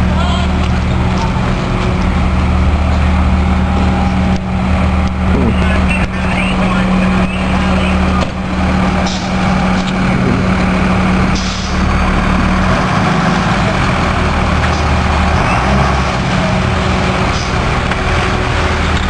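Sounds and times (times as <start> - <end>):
fire engine idling: 0.0 - 19.0.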